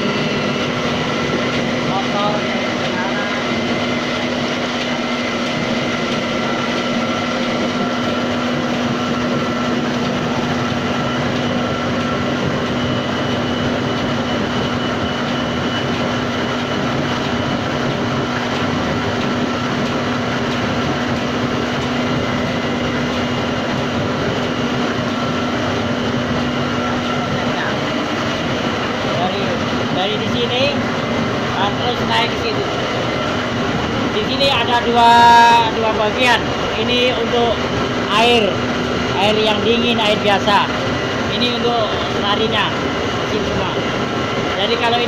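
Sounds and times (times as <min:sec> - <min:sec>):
mechanical rumble: 0:00.0 - 0:45.0
motor humming: 0:00.0 - 0:45.0.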